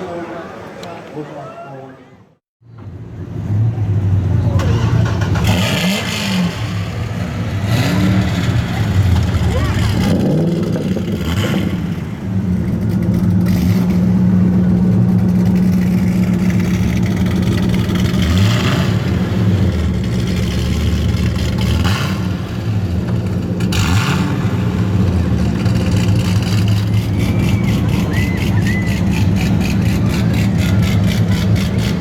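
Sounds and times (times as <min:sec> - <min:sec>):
car engine revving: 0:03.2 - 0:32.0.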